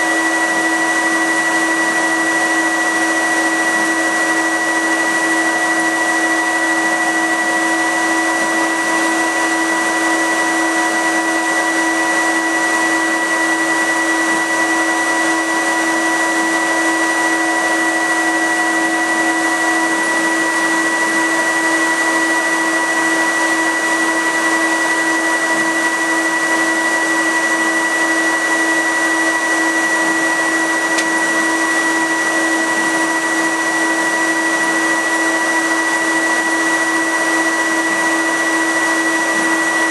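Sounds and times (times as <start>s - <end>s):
loud blower rushing: 0.0s - 39.9s.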